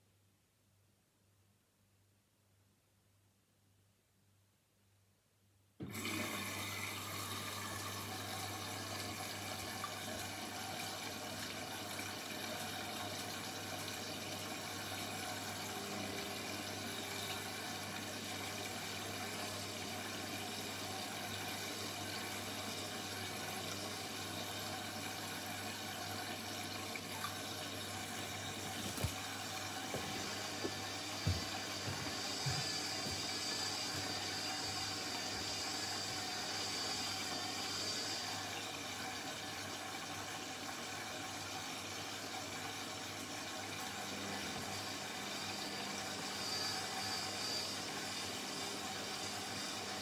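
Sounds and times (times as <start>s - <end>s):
water rushing into washing machine: 5.8s - 50.0s.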